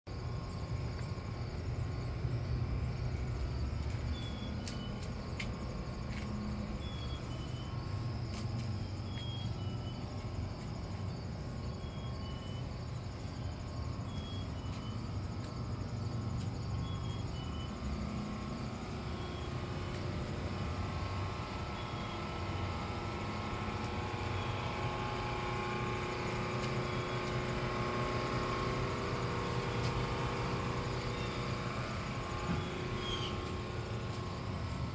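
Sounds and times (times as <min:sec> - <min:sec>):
motor hum: 0:00.1 - 0:34.9.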